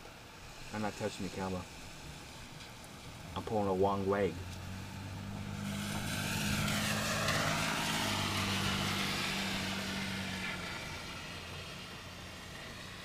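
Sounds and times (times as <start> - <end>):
passing vehicle rushing hiss: 0.0 - 13.0.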